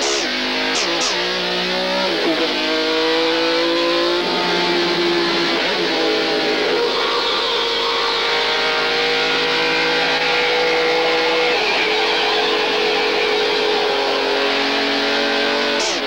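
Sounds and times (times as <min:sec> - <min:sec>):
distorted electric guitar music: 0:00.0 - 0:16.0.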